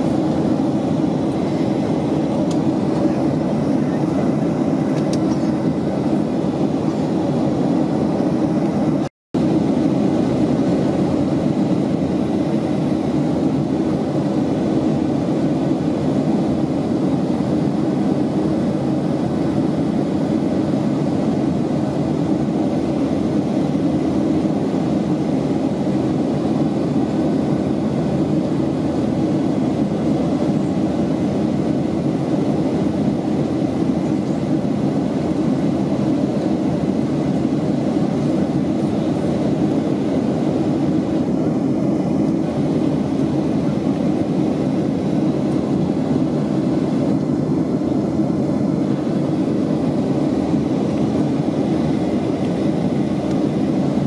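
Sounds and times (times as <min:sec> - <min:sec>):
airplane cabin engine rush: 0:00.0 - 0:54.0.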